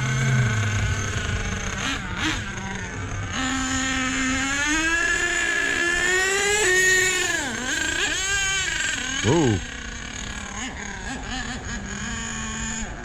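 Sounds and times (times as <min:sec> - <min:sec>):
nitro engine at high revs: 0:00.0 - 0:13.0.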